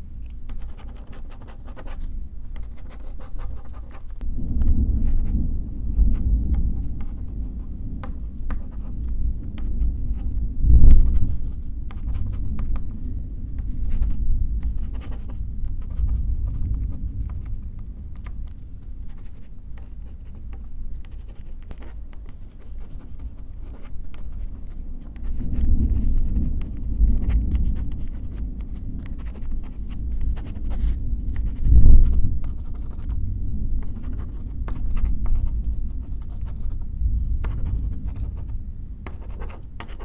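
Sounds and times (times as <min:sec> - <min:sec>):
pen scratching on paper: 0:00.2 - 0:33.2, 0:33.8 - 0:40.0
distant thunder rumble: 0:04.2 - 0:21.0, 0:23.5 - 0:39.4.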